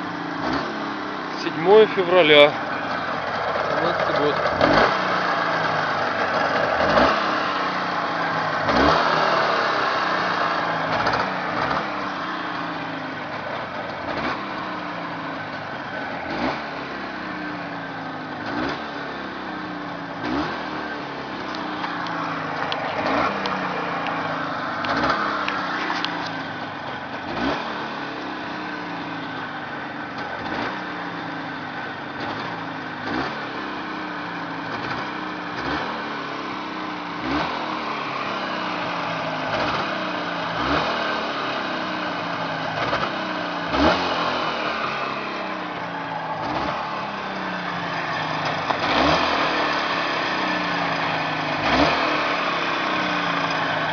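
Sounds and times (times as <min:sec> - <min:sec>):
engine throttle blips: 0:00.0 - 0:53.9
two-stroke engine idling: 0:00.0 - 0:53.9.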